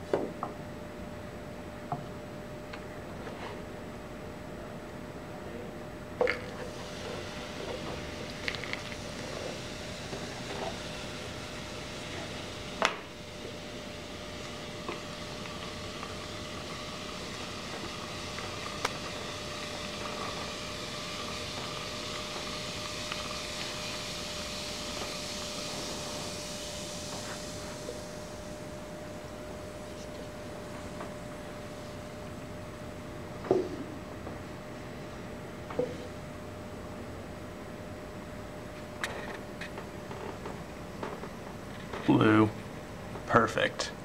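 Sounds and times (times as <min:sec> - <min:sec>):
constant hum: 0:00.0 - 0:44.0
steady hiss: 0:05.4 - 0:44.0.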